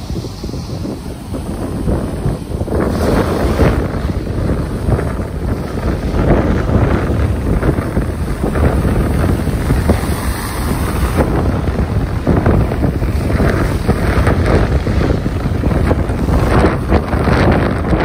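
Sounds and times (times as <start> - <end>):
ocean waves washing: 0.0 - 18.0
wind buffeting microphone: 0.0 - 18.0.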